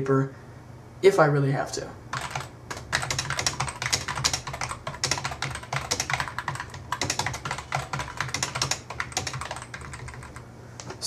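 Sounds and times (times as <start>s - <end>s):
low steady hum: 0.0s - 11.0s
keyboard typing: 2.1s - 11.0s.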